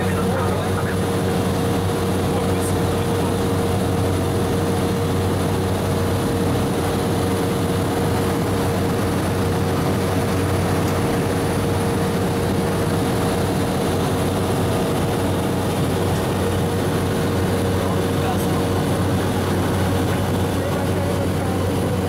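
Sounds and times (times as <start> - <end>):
aircraft engine drone in cabin: 0.0 - 22.0.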